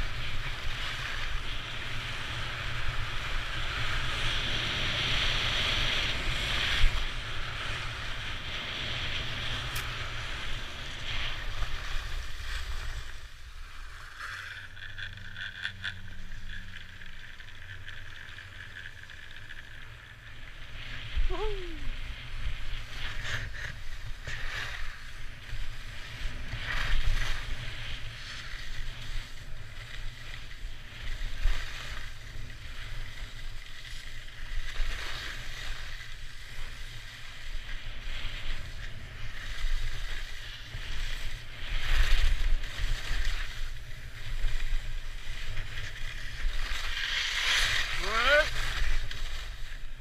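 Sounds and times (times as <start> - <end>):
skis scraping over snow: 0.0 - 50.0.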